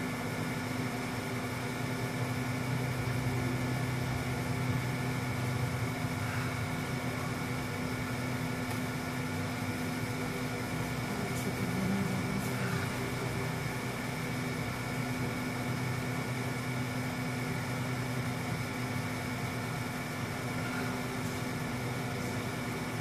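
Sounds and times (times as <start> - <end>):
machine hum with hiss: 0.0 - 23.0.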